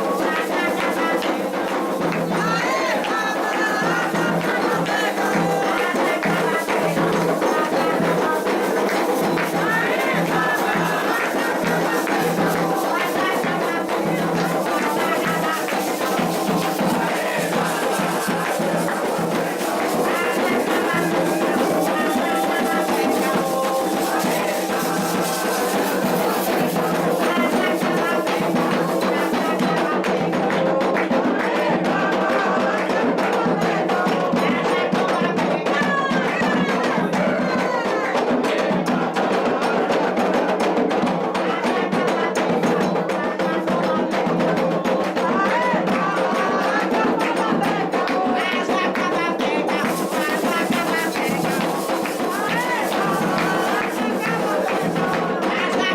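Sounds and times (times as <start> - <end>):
drums and percussion: 0.0 - 55.9
many voices singing together: 0.0 - 55.9.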